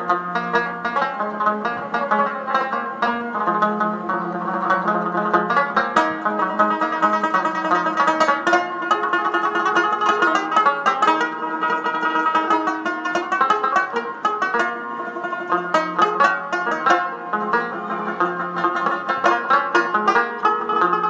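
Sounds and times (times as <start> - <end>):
plucked-string tune: 0.0 - 21.0.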